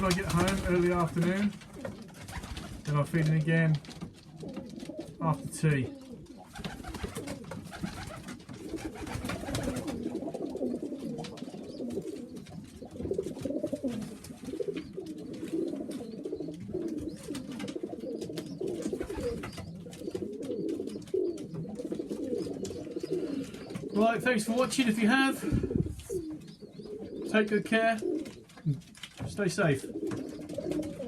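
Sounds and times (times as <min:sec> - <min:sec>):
pigeons cooing: 0:00.0 - 0:03.0, 0:03.8 - 0:31.0.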